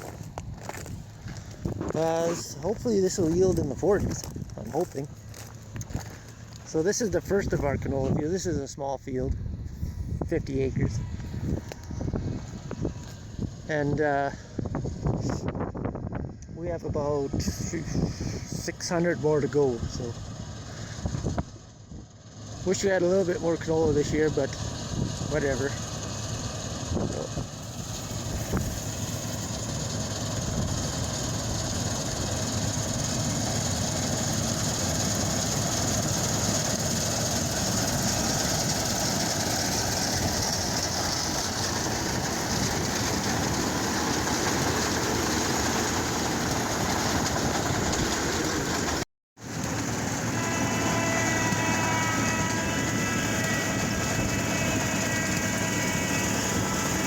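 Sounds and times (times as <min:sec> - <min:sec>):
steady machine whine: 0:00.0 - 0:57.0
swather engine drone: 0:00.0 - 0:57.0.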